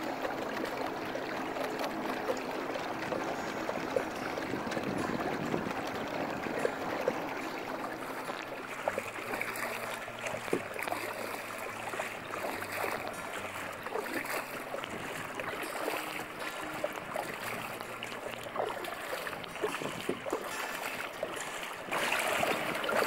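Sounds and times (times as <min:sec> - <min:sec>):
paddle blades splashing in water: 0:00.0 - 0:23.0
water splashes and drips: 0:00.0 - 0:23.0.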